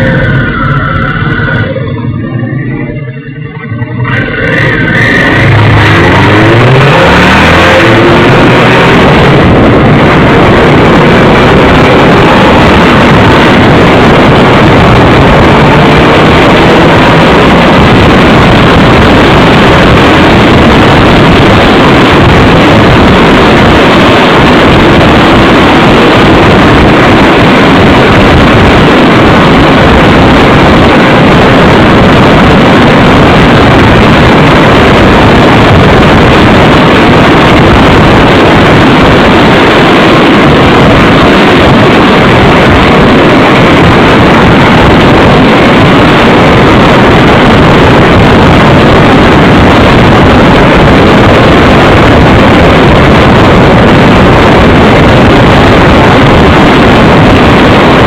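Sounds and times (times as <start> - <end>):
motorcycle engine running: 0.0 - 58.0
wind rush over microphone: 0.0 - 58.0.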